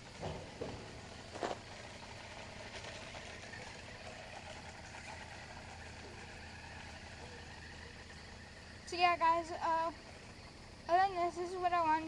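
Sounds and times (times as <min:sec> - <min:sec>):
rc car running: 0:00.0 - 0:12.0.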